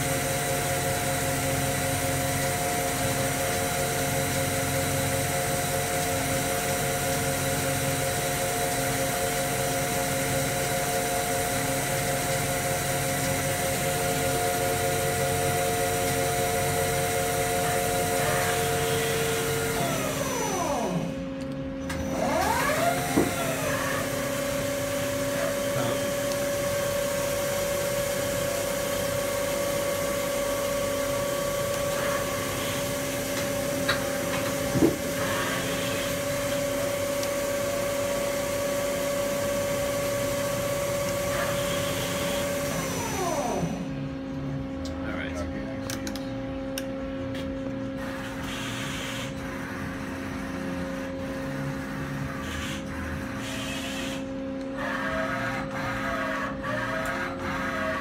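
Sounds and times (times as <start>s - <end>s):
lathe spindle whine: 0.0s - 44.2s, 48.1s - 58.0s.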